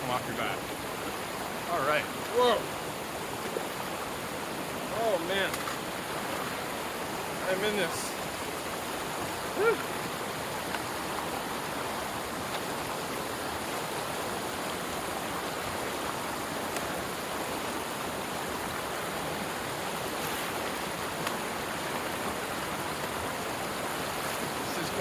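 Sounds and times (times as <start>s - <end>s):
creek rushing: 0.0s - 25.0s.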